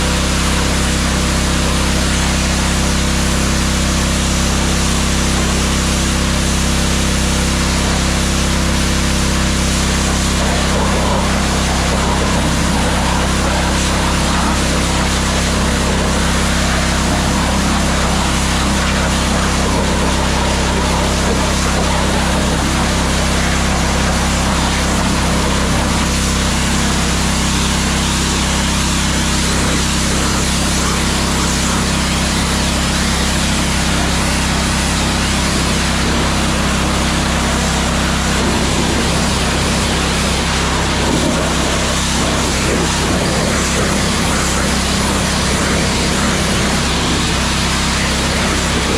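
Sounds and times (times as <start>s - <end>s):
pressure washer engine and pump drone: 0.0s - 48.9s
water spray hiss: 0.0s - 48.9s.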